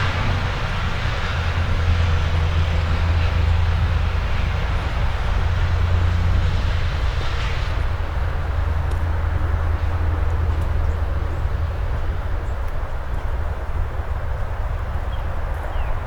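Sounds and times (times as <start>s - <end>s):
low engine rumble with hiss: 0.0s - 16.0s.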